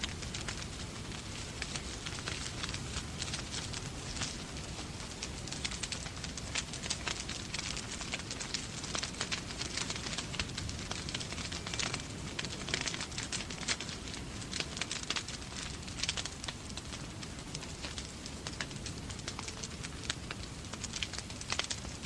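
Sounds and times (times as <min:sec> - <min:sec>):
rain hiss: 0:00.0 - 0:22.0
wood fire crackling and popping: 0:00.0 - 0:22.0.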